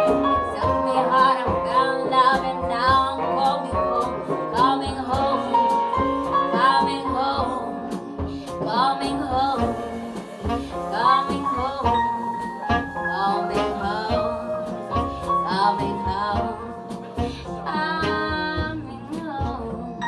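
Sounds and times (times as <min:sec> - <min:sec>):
live band playing: 0:00.0 - 0:20.0
woman singing: 0:00.0 - 0:20.0.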